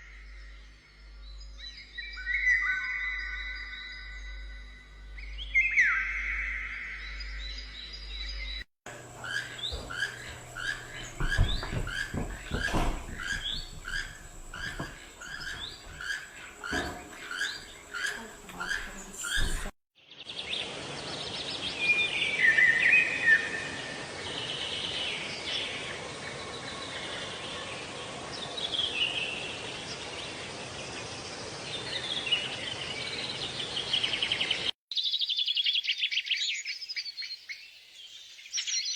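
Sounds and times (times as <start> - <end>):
bird chirping: 0.0 - 27.7, 31.6 - 38.9
bird singing chirps and trills: 0.0 - 38.9.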